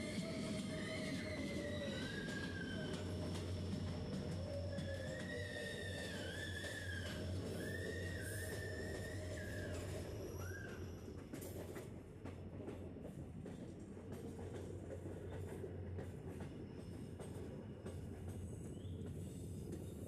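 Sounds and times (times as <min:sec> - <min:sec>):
train coaches rumbling: 0:00.0 - 0:20.0
wheels squealing on rails: 0:00.0 - 0:20.0.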